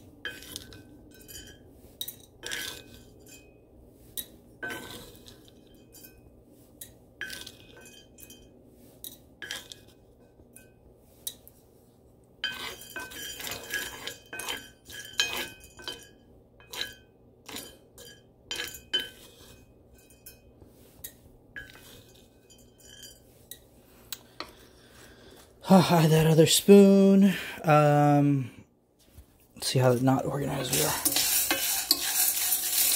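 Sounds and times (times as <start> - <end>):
spatula stirring beans in skillet: 0.0 - 32.9
beans clinking against iron: 0.2 - 11.5, 12.4 - 25.5, 29.6 - 32.9.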